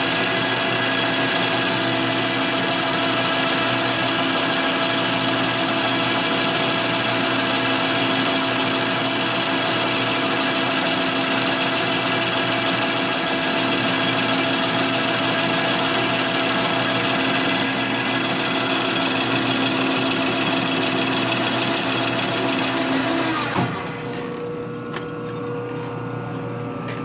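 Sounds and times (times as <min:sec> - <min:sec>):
metal lathe cutting steel: 0:00.0 - 0:24.2.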